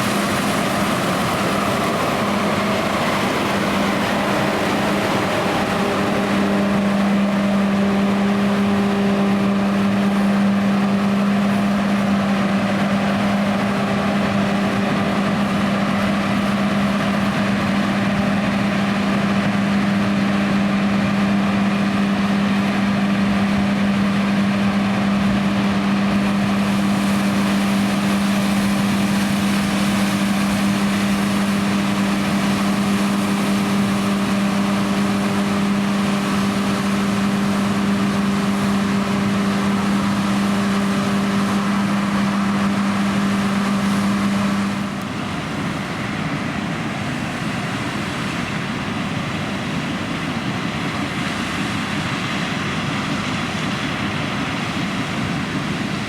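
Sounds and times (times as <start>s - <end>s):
combine harvester drone: 0.0s - 56.0s
steady hum: 0.0s - 56.0s.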